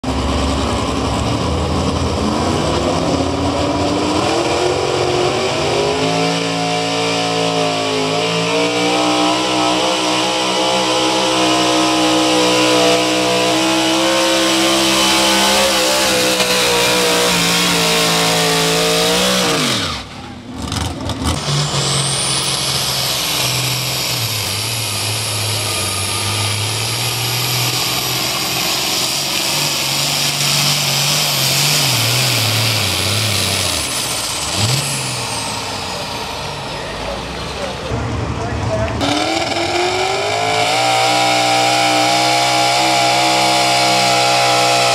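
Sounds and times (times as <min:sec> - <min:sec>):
engine revving at full throttle: 0:00.0 - 0:38.1, 0:38.7 - 0:44.9
engine running low: 0:00.0 - 0:44.9.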